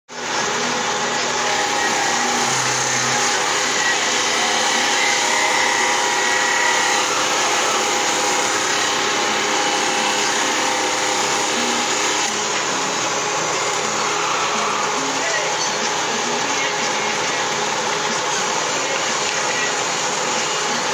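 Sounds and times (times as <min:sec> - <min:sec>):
circular saw cutting stone: 0:00.1 - 0:20.9.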